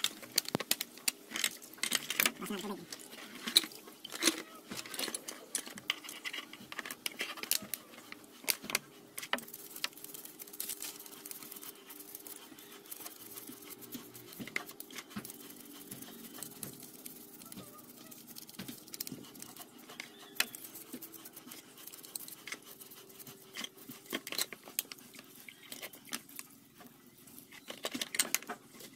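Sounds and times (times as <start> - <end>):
toothbrush scrubbing metal: 0.0 - 28.9.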